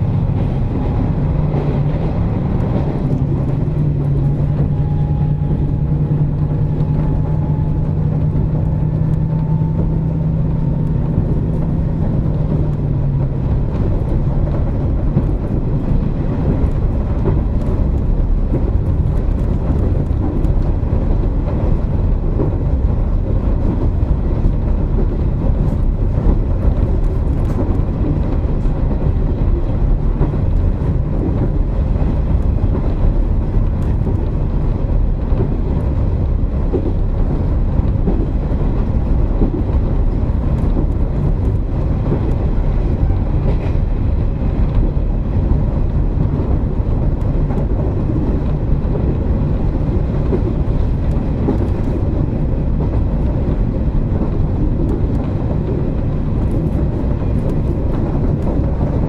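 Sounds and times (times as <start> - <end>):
diesel engine humming: 0.0 - 59.0
wheels rumbling on rail: 0.0 - 59.0.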